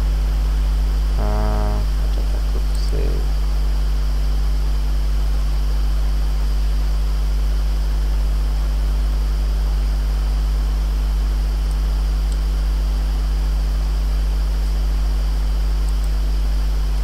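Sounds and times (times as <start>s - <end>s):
electrical mains hum with hiss: 0.0s - 17.0s.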